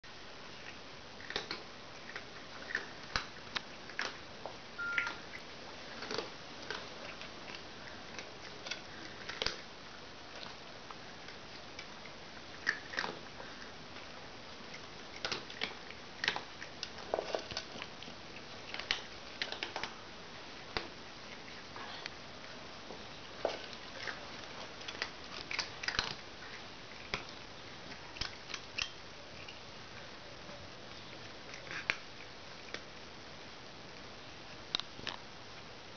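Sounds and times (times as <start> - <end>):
cats crunching dry kibble: 0.1 - 35.8.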